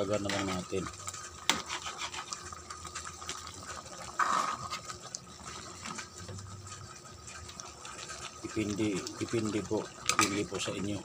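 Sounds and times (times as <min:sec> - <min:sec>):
spoon stirring in metal pot: 0:00.0 - 0:10.8.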